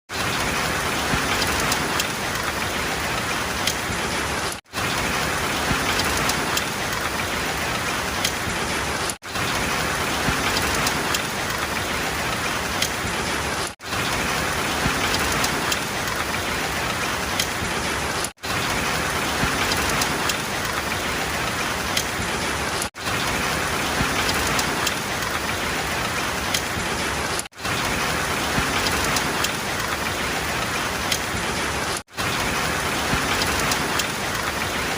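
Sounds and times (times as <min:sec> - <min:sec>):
raindrop hits: 0:00.1 - 0:34.9
steady rain: 0:00.1 - 0:34.9.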